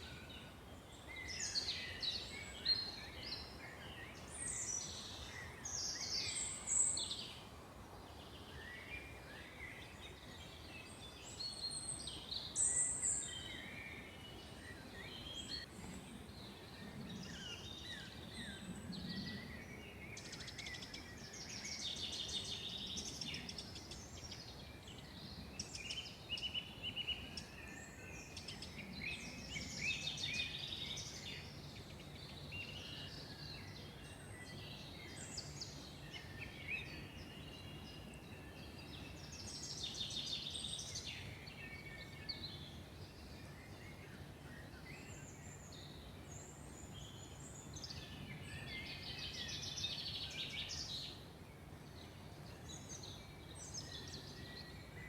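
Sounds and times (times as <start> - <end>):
wild birds singing and calling: 0.0 - 55.0.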